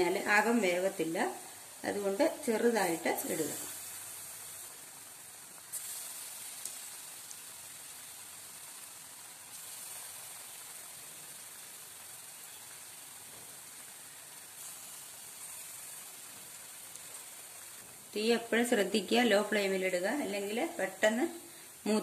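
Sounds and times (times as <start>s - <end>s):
batter sizzling in hot oil: 0.0s - 22.0s.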